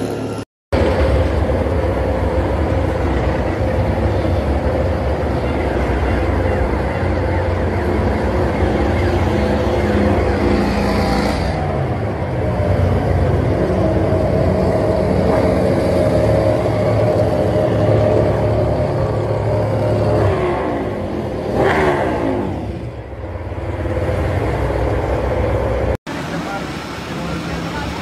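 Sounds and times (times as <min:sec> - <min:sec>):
racing motorcycle engines revving: 0:00.8 - 0:28.0.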